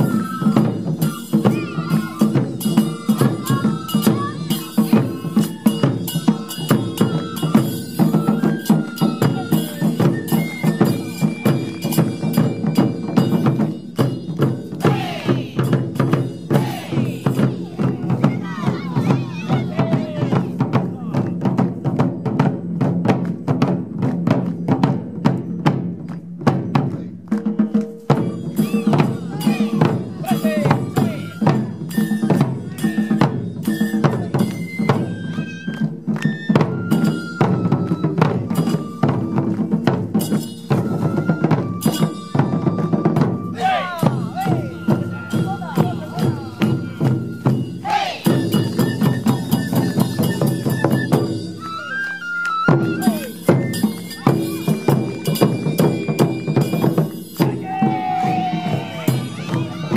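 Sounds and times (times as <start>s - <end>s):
bamboo flute melody: 0.0s - 22.9s, 24.3s - 59.9s
taiko drumming: 0.0s - 51.8s, 52.6s - 59.9s.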